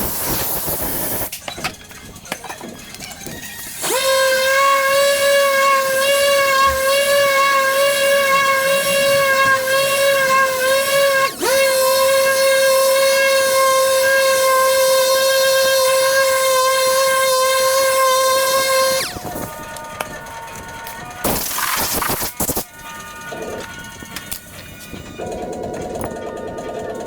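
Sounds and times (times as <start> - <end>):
power tool motor whine: 3.5 - 26.7.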